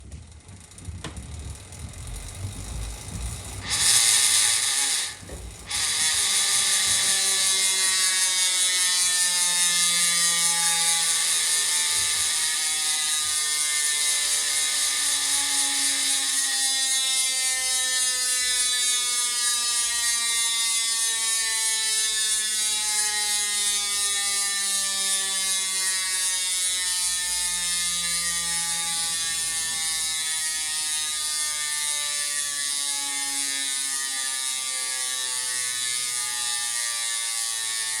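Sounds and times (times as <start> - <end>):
bicycle freewheel buzzing: 0.0 - 38.0.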